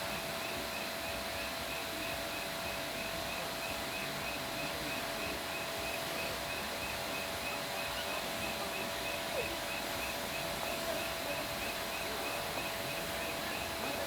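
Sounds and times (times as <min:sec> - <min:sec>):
faint steady hum and hiss: 0:00.0 - 0:14.0.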